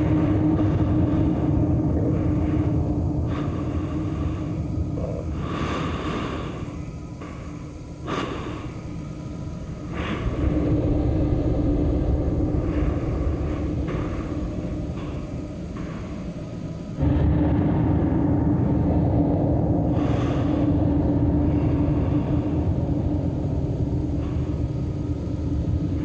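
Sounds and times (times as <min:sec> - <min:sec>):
low rumbling drone: 0:00.0 - 0:26.0.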